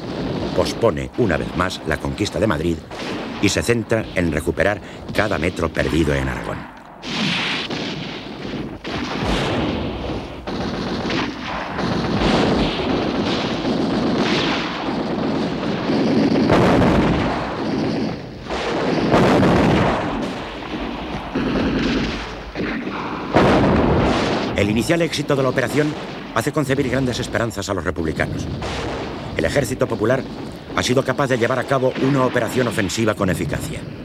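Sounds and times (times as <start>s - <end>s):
artillery explosions: 0.0s - 34.0s
gunfire: 0.0s - 34.0s.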